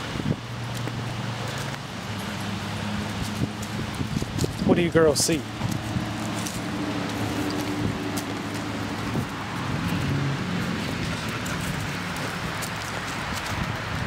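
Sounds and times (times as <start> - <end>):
low vehicle hum: 0.0 - 14.0
puppies scuffling on grass: 0.0 - 14.0.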